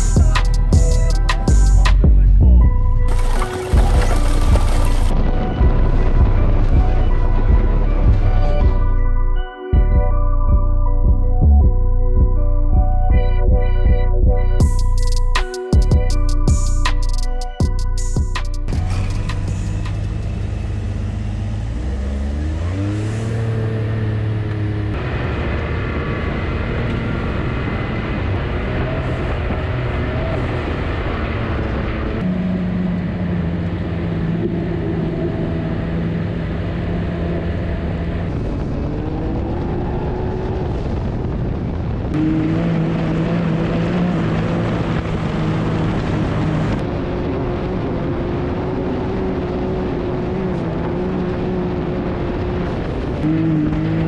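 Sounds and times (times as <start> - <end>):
utility vehicle engine running: 0.0 - 9.4, 14.4 - 54.0.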